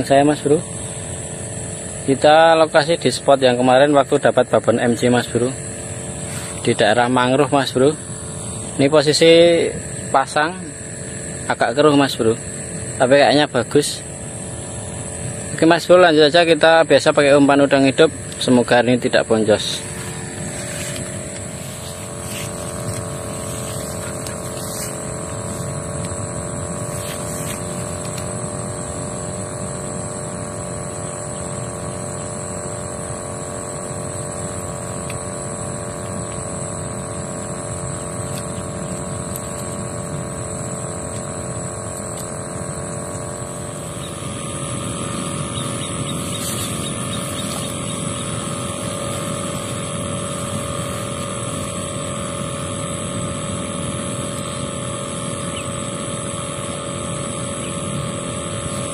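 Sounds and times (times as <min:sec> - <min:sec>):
engine-like drone: 0:00.0 - 0:58.9.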